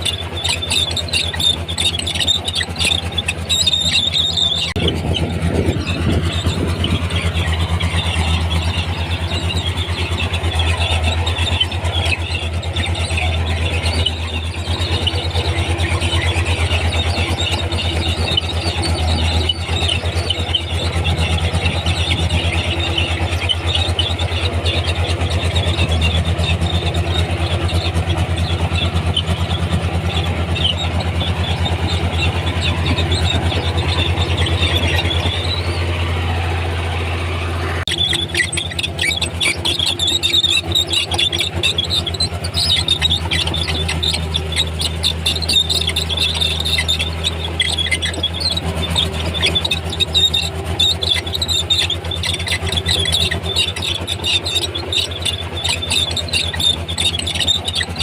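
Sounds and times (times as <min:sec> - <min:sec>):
bulldozer diesel engine running: 0:00.0 - 0:58.0
steel tracks squealing: 0:00.0 - 0:58.0.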